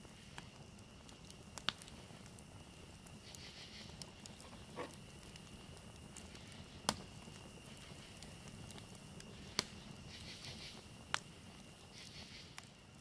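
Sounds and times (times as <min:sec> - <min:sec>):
faint clicks and crackles: 0:00.0 - 0:13.0.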